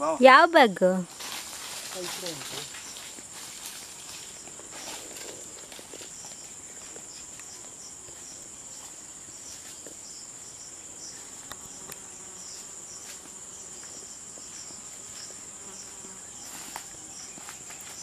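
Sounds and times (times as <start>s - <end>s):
high-pitched insect drone: 0.0s - 18.0s
insect chirps: 0.0s - 18.0s.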